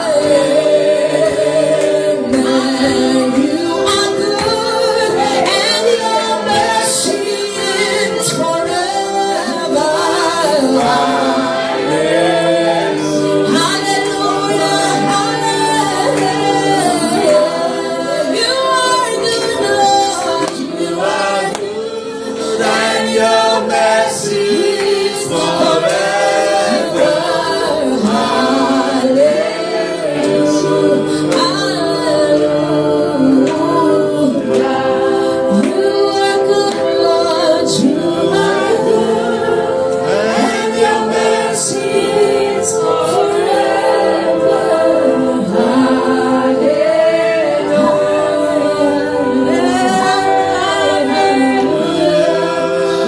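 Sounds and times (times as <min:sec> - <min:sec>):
group singing gospel worship: 0:00.0 - 0:53.0.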